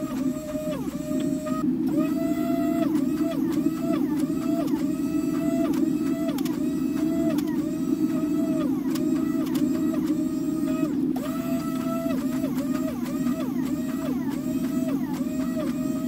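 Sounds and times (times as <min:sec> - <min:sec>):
hydraulic pump hum: 0:00.0 - 0:16.0.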